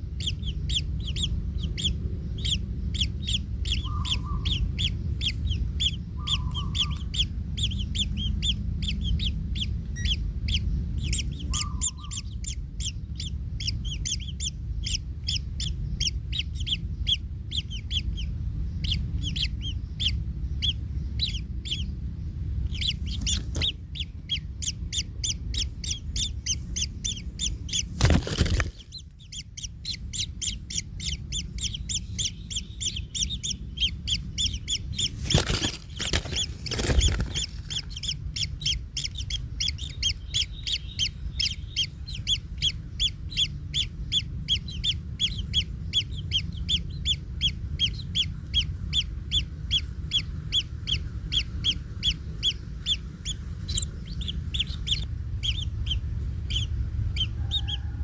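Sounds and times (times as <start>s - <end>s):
low rumble: 0.0s - 58.0s
nestlings chirping: 0.0s - 58.0s.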